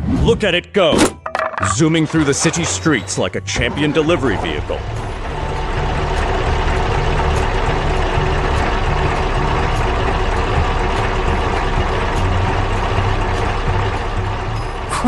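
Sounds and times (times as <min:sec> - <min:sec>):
truck engine rumbling: 0:00.6 - 0:15.0.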